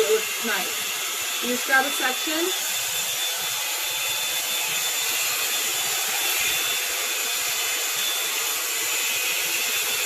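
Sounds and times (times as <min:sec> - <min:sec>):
hair dryer brush blowing air: 0:00.0 - 0:10.0.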